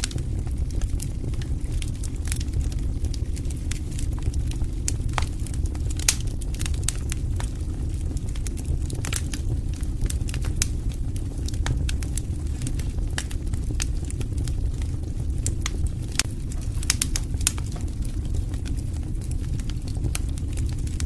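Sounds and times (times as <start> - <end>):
low rumble of burning: 0.0 - 21.0
wood fire crackling and popping: 0.0 - 21.0.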